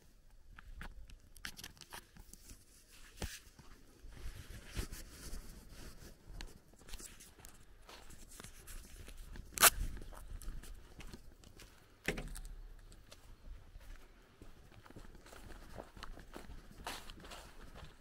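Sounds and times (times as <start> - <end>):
footsteps on sandy dirt road: 2.3 - 18.0.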